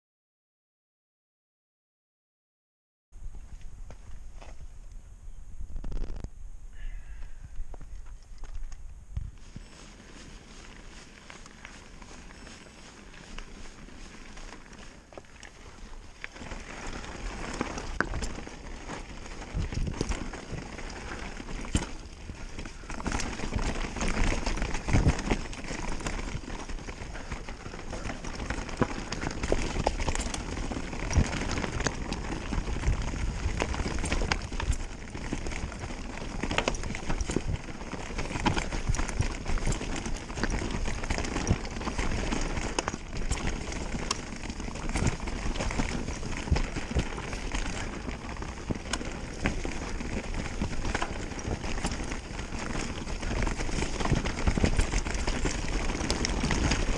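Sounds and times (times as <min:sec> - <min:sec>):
wind rumble on microphone: 0:03.2 - 0:56.9
bike knocking and rattling: 0:05.8 - 0:56.9
tyres crunching over stones: 0:07.1 - 0:56.9.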